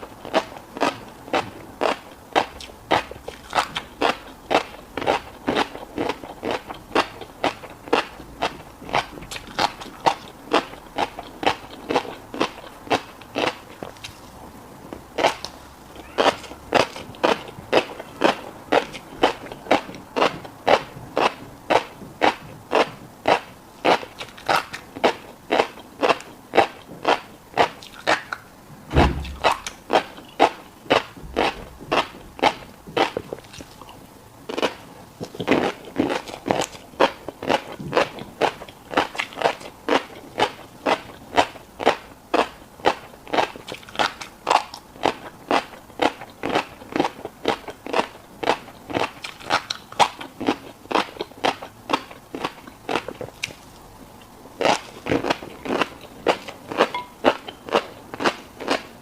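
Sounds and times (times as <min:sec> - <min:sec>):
chewing crunchy fish roe: 0:00.1 - 0:59.0.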